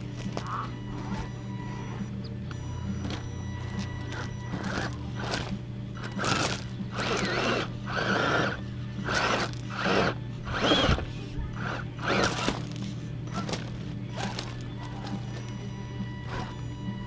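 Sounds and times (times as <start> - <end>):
background hum: 0.0 - 17.0
toy car motor whirring: 1.0 - 17.0.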